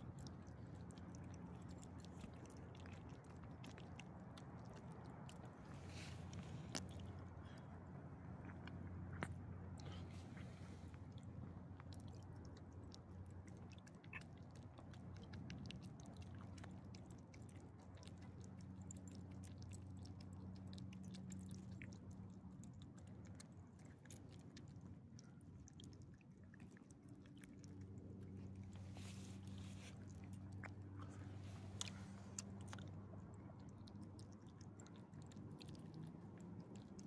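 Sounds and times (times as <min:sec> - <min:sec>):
dog chewing and licking: 0:00.0 - 0:37.0
steady low hum: 0:00.0 - 0:37.0.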